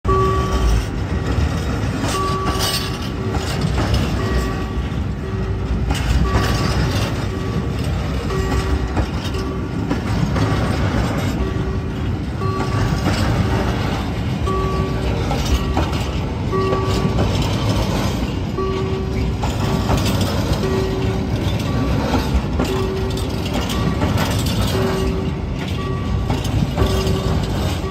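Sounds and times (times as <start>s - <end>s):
train wheels rumbling on rails: 0.0s - 27.9s
wheels clacking over rail joints: 0.1s - 27.9s.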